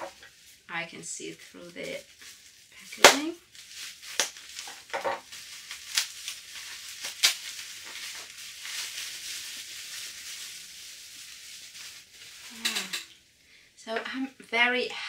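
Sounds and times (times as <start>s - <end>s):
bubble wrap crinkling: 0.0s - 13.2s.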